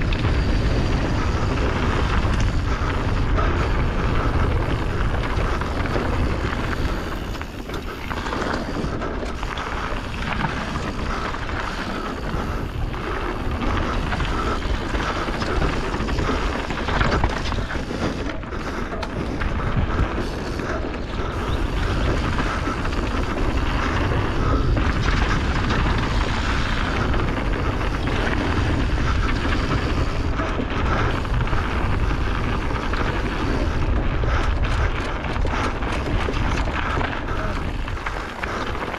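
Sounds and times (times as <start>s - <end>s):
bike tyres crunching on gravel: 0.0s - 38.9s
wind on microphone: 0.0s - 38.9s.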